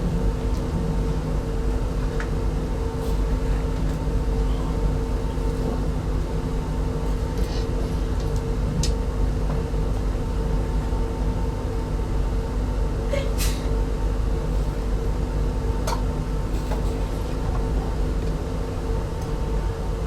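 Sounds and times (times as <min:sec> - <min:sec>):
train coach running rumble: 0:00.0 - 0:20.0.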